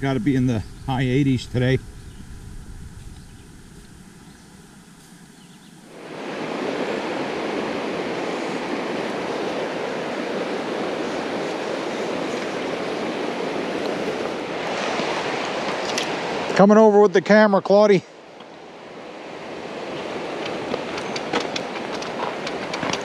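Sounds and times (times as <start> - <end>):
shallow stony river flowing: 2.2 - 23.0.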